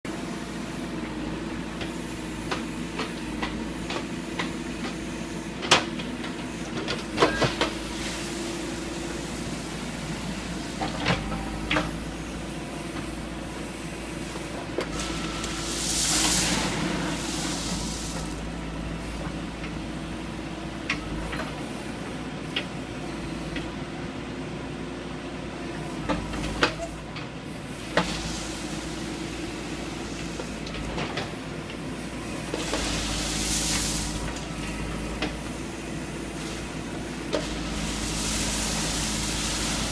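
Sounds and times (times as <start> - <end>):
backhoe engine running: 0.1 - 39.9.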